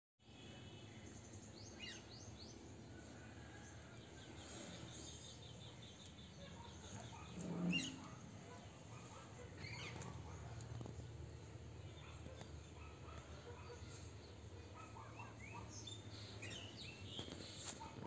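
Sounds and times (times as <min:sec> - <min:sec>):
birds chirping: 0:00.3 - 0:18.0.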